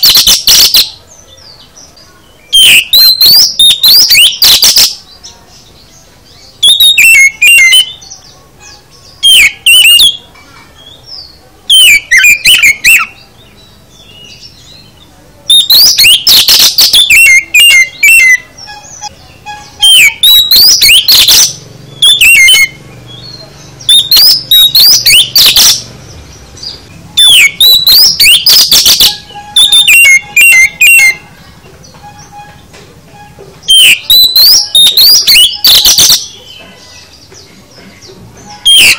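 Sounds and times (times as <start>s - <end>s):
bird singing whistles and trills: 0.0s - 31.2s, 31.8s - 38.9s.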